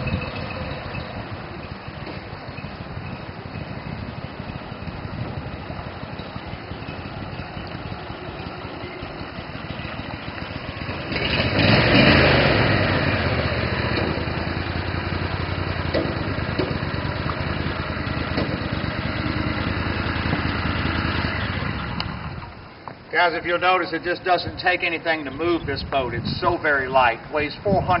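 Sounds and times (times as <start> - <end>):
boat motor running: 0.0 - 23.0.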